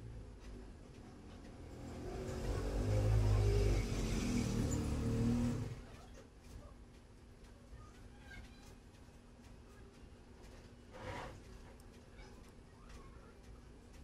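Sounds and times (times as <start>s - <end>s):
computer fans whirring: 0.0s - 14.0s.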